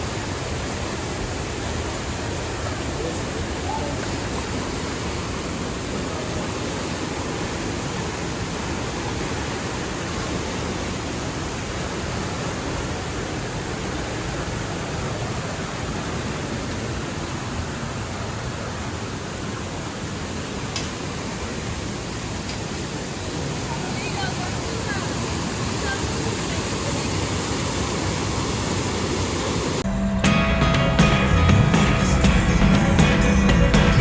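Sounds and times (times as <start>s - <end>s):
waterfall rushing water: 0.0s - 29.9s.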